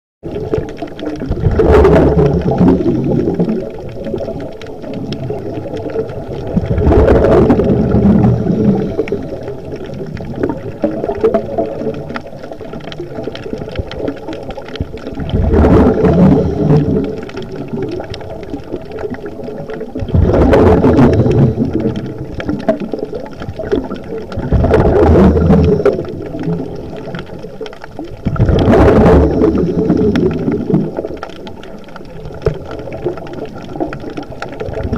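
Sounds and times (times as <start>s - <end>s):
underwater breath bubbles: 0.2s - 34.9s
underwater gurgling: 0.2s - 34.9s.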